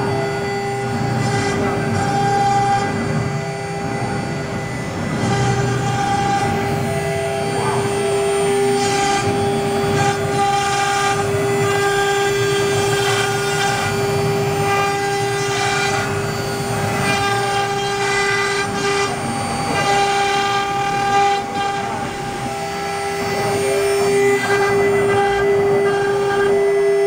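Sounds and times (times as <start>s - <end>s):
router bit cutting wood: 0.0s - 27.0s
router spindles whining: 0.0s - 27.0s.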